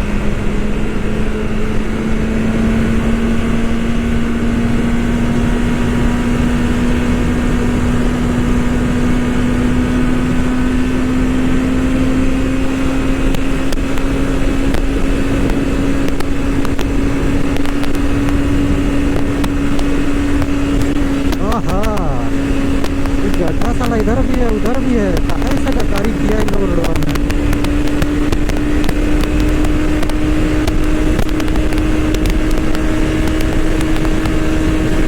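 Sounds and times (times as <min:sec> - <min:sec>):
motorcycle engine running: 0:00.0 - 0:35.0
wind noise: 0:00.0 - 0:35.0.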